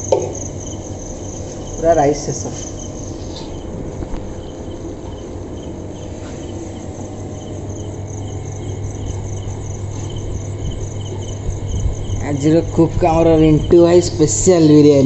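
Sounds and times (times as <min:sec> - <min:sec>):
crickets chirping: 0:00.0 - 0:15.0
steady low hum: 0:00.0 - 0:15.0.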